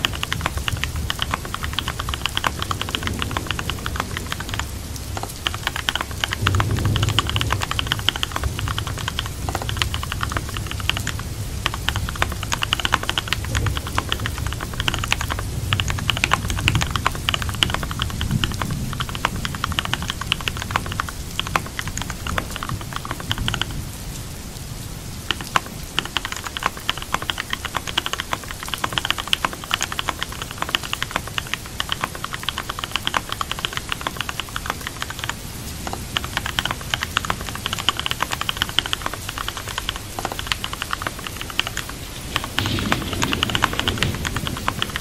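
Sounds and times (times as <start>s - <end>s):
computer keyboard typing: 0.0s - 23.8s, 25.2s - 45.0s
steady rain: 0.0s - 45.0s.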